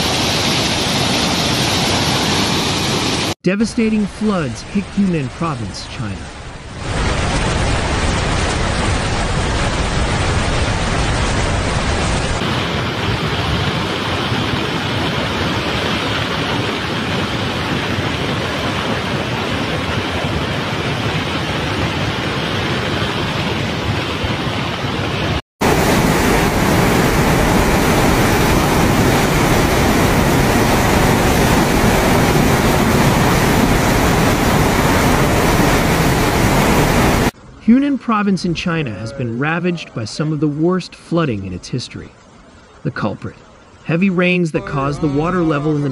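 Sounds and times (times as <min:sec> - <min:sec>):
rushing floodwater: 0:00.0 - 0:45.9.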